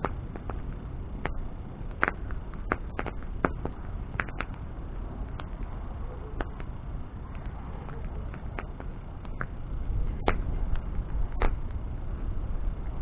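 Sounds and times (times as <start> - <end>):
burning wood crackling: 0.0 - 13.0
low rush of flame: 0.0 - 13.0.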